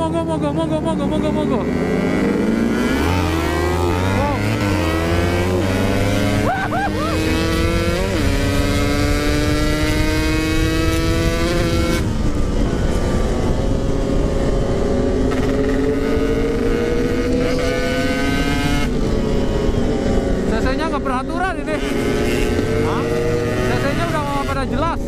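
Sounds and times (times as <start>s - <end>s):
motorcycle engine under throttle: 1.1s - 25.0s
wind rushing over microphone: 1.6s - 25.0s.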